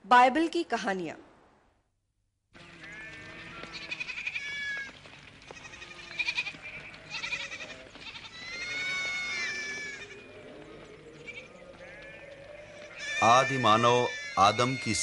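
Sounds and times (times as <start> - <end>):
sheep and goats bleating: 2.6 - 15.0.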